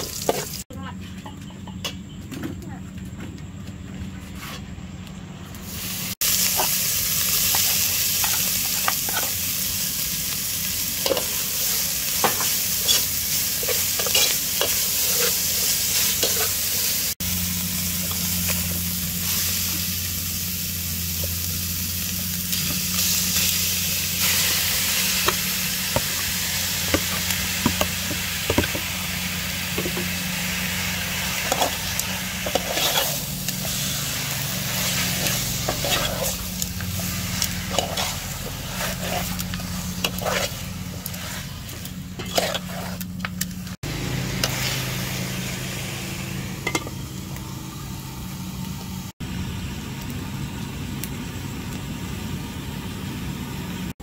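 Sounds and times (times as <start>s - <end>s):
food sizzling in a pot: 0.0s - 0.7s, 5.6s - 50.0s.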